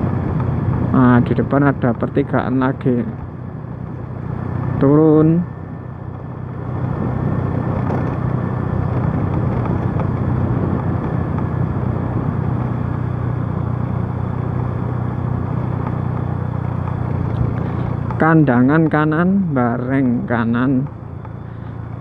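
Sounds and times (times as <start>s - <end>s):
motorcycle engine hum: 0.0s - 22.0s
wind and road noise: 0.0s - 22.0s.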